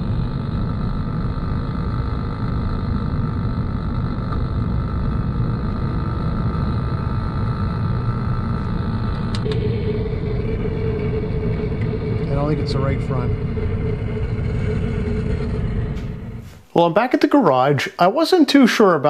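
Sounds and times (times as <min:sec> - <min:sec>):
steady chassis rumble: 0:00.0 - 0:16.8
steady tone: 0:00.0 - 0:17.9.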